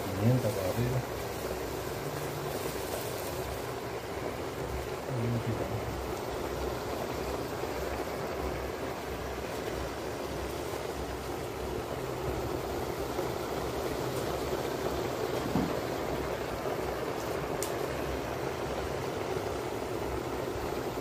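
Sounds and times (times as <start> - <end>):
stew bubbling in a pot: 0.0 - 21.0.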